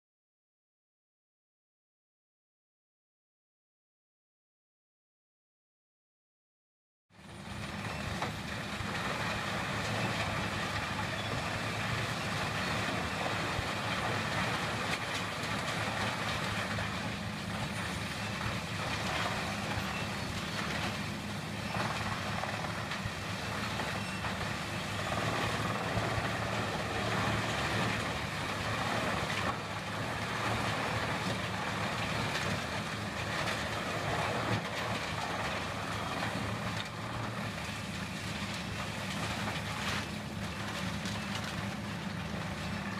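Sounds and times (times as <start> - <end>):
diesel engine droning: 7.2 - 42.9.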